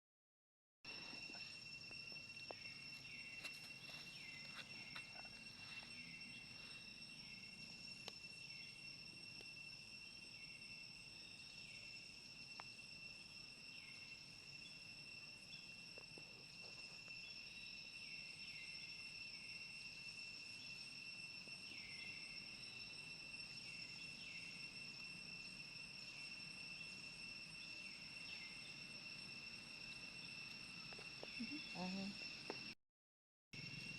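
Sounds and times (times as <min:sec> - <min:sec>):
high-pitched insect drone: 0:00.9 - 0:32.8, 0:33.6 - 0:33.9.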